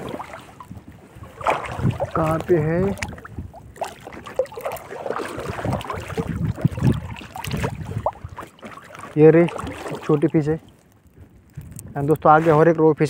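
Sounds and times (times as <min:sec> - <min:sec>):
water splashing and dripping: 0:00.0 - 0:11.8.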